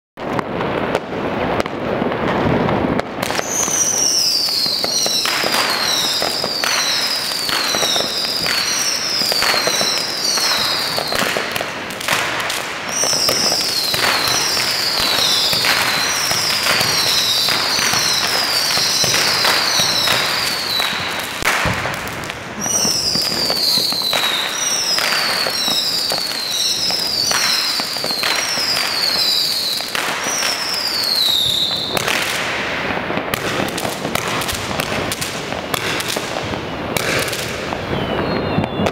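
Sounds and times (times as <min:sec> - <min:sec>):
firework cracks and pops: 0:00.2 - 0:38.9
firework shots whistling: 0:02.3 - 0:38.9.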